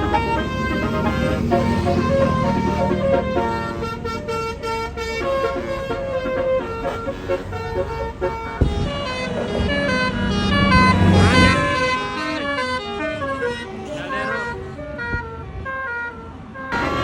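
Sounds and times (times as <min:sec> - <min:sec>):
bus engine: 0:00.0 - 0:17.0
multi-tone bus horn melody: 0:00.0 - 0:17.0.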